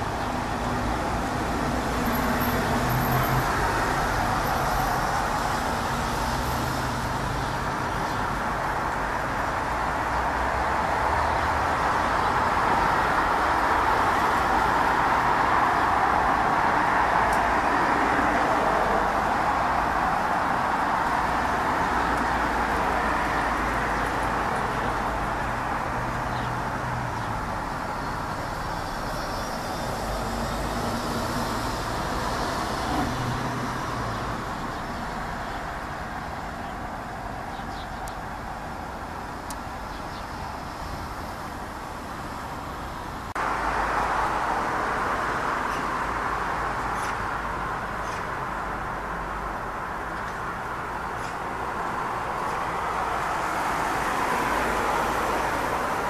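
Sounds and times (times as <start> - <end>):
road traffic rush: 0.0 - 56.0.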